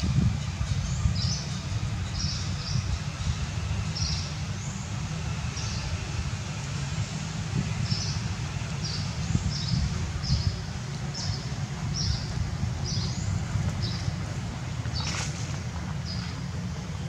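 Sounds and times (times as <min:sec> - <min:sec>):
constant low rumble: 0:00.0 - 0:17.0.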